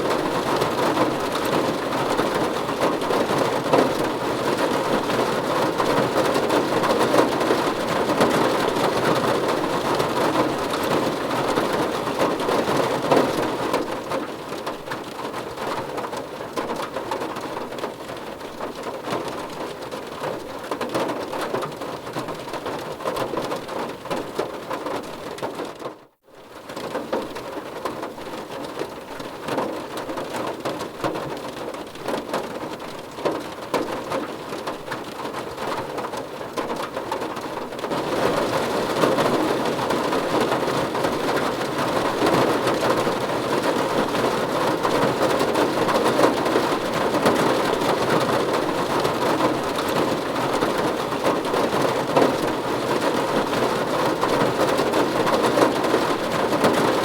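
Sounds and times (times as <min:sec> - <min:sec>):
rain pattering on a car roof: 0:00.0 - 0:57.0.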